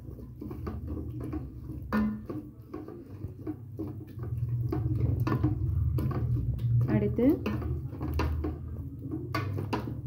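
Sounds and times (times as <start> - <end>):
onions sauteing in oil: 0.0 - 10.0
spatula scraping and tapping pot: 0.0 - 10.0.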